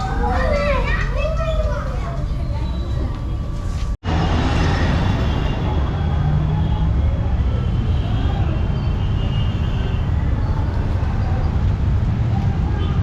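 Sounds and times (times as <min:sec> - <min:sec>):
low rumble of vehicle noise: 0:00.0 - 0:13.0.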